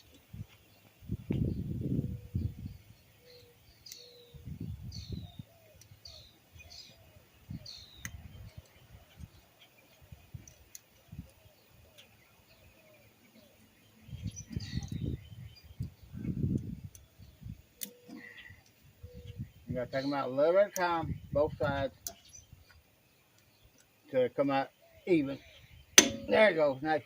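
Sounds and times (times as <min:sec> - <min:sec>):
small bird chirping: 0:00.0 - 0:26.5.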